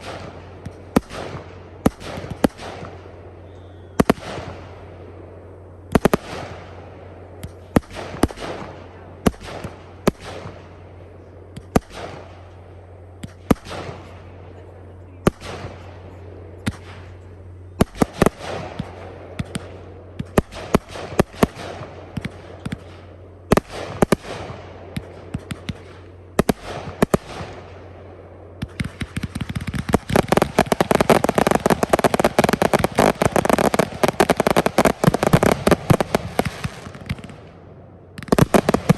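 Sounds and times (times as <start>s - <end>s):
fireworks bangs and crackling: 0.0s - 28.0s, 28.6s - 38.9s.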